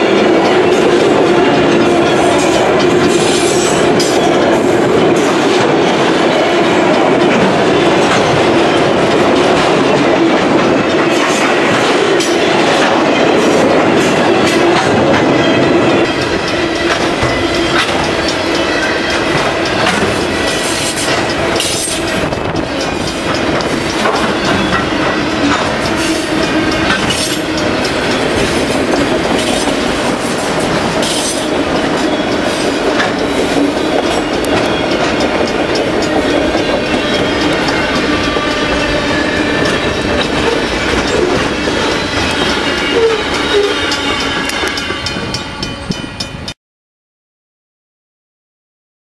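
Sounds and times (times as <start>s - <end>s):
wheels clacking over rail joints: 0.0s - 46.0s
freight train rolling rumble: 0.0s - 46.6s.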